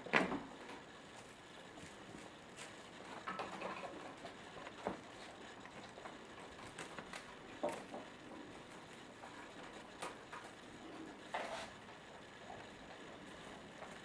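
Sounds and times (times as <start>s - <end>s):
kittens scuffling paws and claws: 0.4s - 14.0s.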